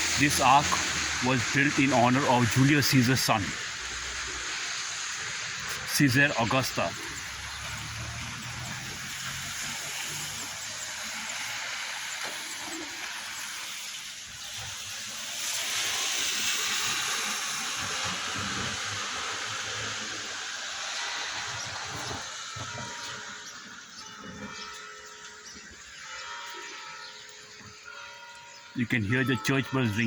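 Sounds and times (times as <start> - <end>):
tyres hissing on wet road: 0.0 - 27.9
traffic hiss on wet street: 0.0 - 30.0.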